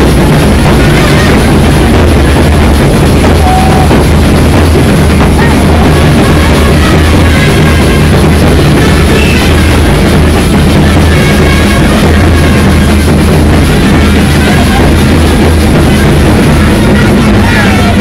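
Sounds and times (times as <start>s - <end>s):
band music: 0.0s - 18.0s
bass drums pounding: 0.0s - 18.0s.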